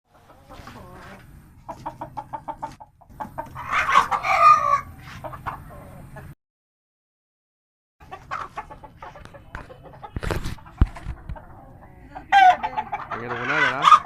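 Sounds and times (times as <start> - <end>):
hen cackling and squawking: 0.1 - 6.3, 8.0 - 14.0.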